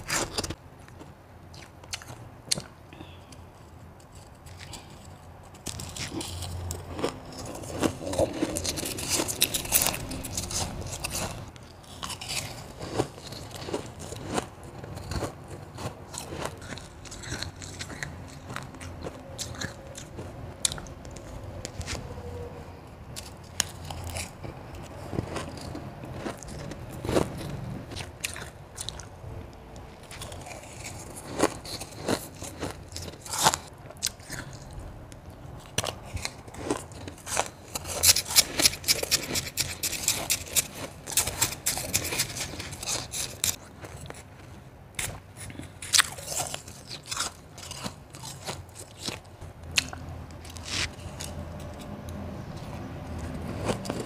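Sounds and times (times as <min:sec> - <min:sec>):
crunching and chewing ice: 0:00.0 - 0:54.0.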